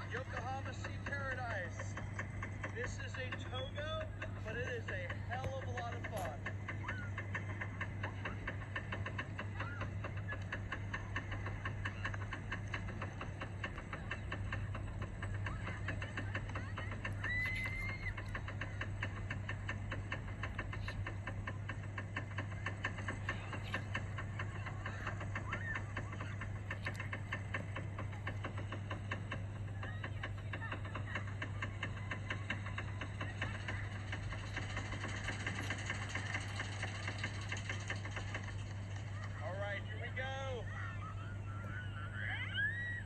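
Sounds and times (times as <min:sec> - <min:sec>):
lift chain clacking: 0:00.0 - 0:43.0
steady low hum: 0:00.0 - 0:43.0.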